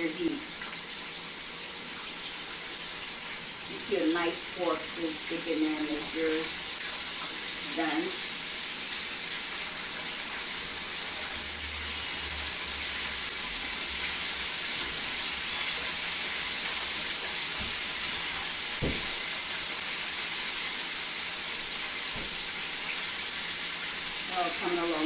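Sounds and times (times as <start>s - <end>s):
chicken sizzling in oil: 0.0s - 25.0s.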